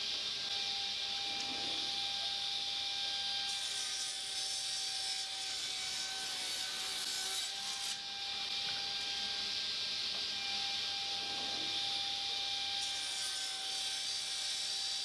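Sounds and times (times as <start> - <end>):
saw cutting through wood: 0.0 - 9.6, 10.4 - 15.0.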